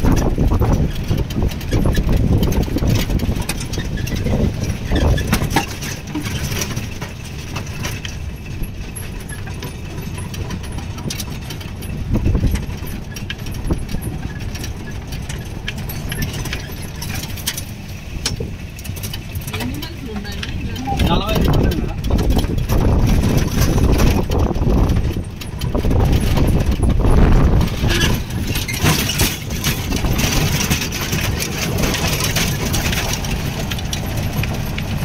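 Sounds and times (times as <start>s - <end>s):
body clicks and rattles: 0.0s - 35.0s
car engine running: 0.0s - 35.0s.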